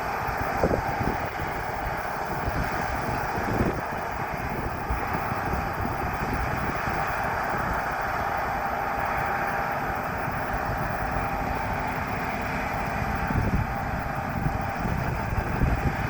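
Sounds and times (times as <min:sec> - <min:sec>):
combine harvester running: 0:00.0 - 0:16.0
wind buffeting microphone: 0:00.0 - 0:16.0.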